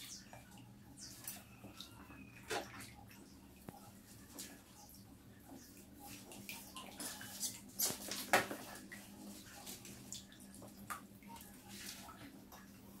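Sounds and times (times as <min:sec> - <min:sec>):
rats splashing in water: 0:00.0 - 0:13.0.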